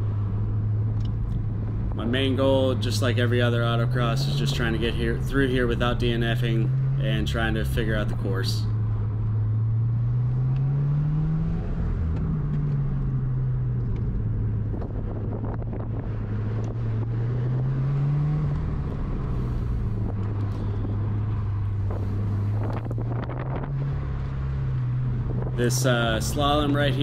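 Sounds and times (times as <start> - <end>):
car engine revving: 0.0 - 27.0
tyre and road noise: 0.0 - 27.0.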